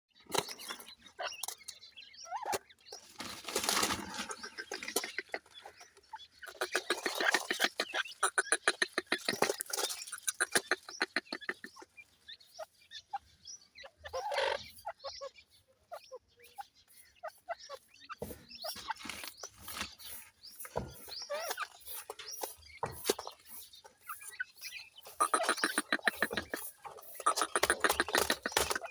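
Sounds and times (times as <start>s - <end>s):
partridge chicks calling and clucking: 0.2s - 28.9s.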